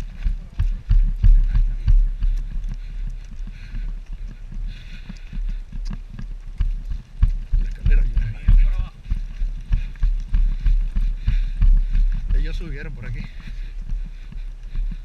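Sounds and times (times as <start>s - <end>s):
gear knocking against camera: 0.0s - 14.1s
running footsteps: 0.0s - 15.0s.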